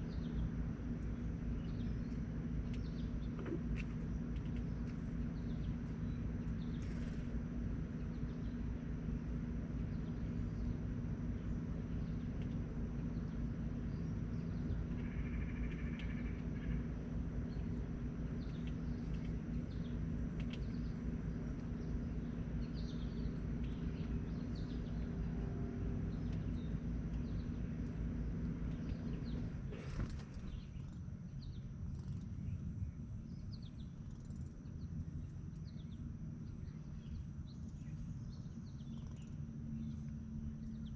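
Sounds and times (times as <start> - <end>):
low mechanical hum: 0.0 - 40.9
small birds chirping: 0.0 - 40.9.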